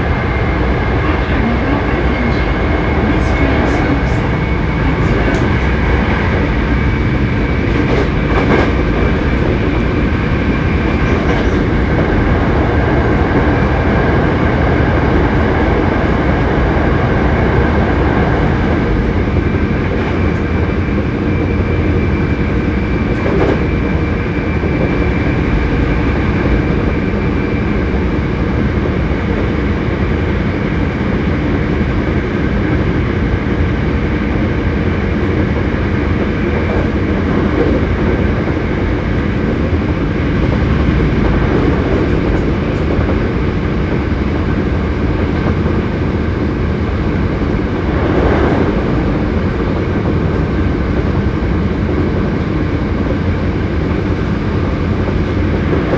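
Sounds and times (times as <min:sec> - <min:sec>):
rail joint clacks: 0:00.0 - 0:55.9
train wheels rumbling on rail: 0:00.0 - 0:55.9.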